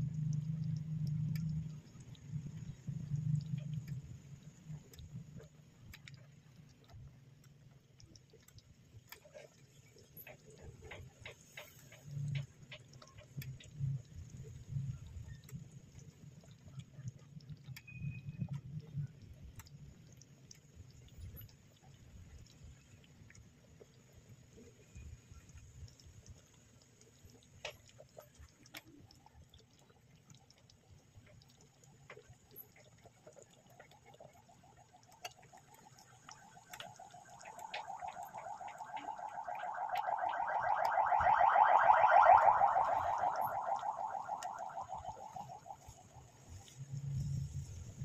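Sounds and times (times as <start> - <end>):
pasta simmering in a pot: 0.0 - 48.0
small ticks and pops: 0.0 - 48.0.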